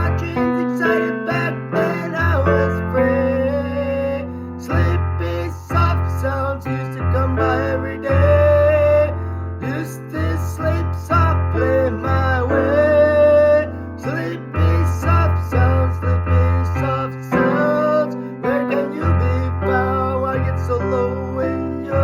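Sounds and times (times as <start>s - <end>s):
person singing slow song: 0.0s - 22.0s
piano accompaniment: 0.0s - 22.0s.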